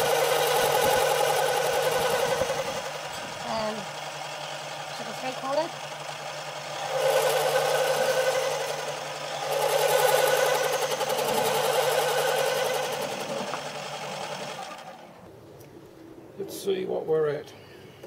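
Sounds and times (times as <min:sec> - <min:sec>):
rhythmic lathe cutting noise: 0:00.0 - 0:15.1
lathe motor hum: 0:00.0 - 0:15.2.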